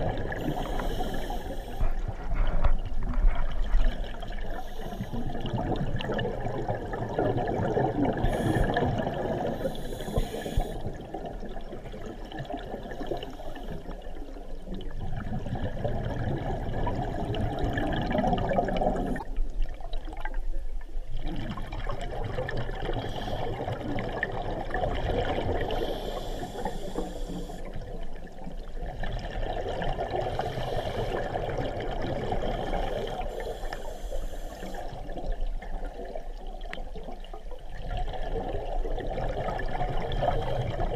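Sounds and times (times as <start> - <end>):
regulator bubbling underwater: 0.0 - 40.9.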